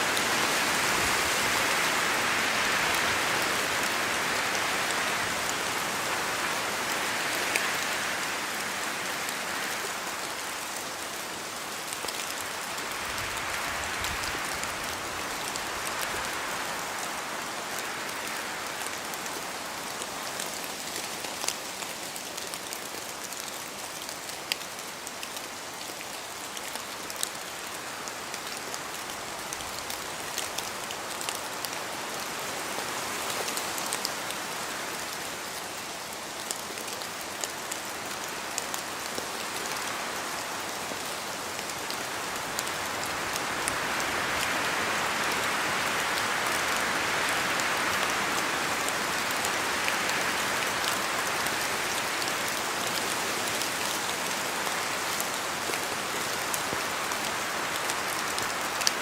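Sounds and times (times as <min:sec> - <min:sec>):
rain falling through trees: 0:00.0 - 0:59.0
wind: 0:00.0 - 0:59.0.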